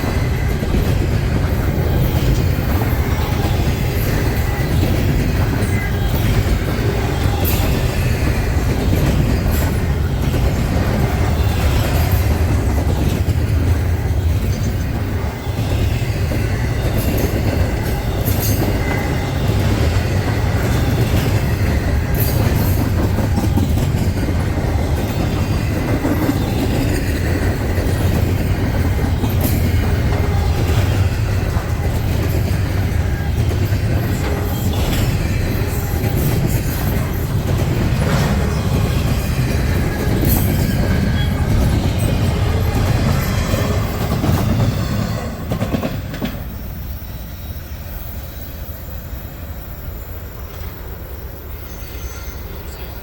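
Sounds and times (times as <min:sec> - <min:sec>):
freight train rumbling past: 0:00.0 - 0:53.0.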